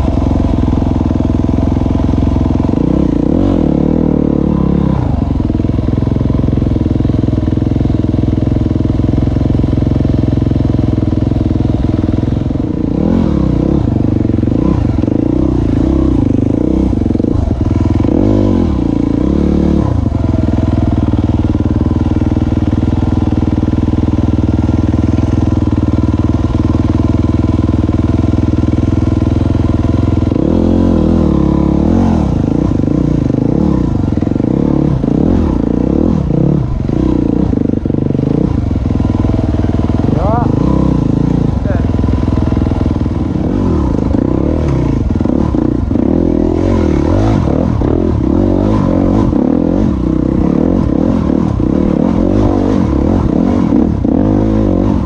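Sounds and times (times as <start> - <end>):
dirt bike engine idling: 0.0 - 55.0
dirt bike engine revving: 0.0 - 55.0.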